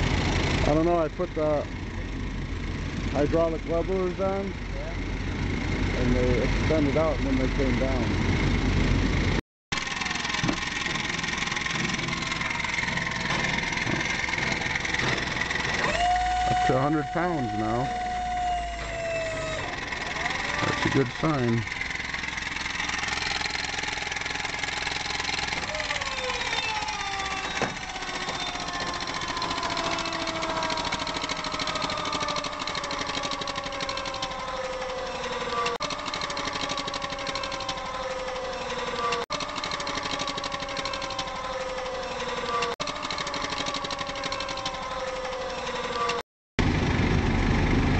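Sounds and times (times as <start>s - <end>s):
air compressor whining: 0.0s - 47.9s.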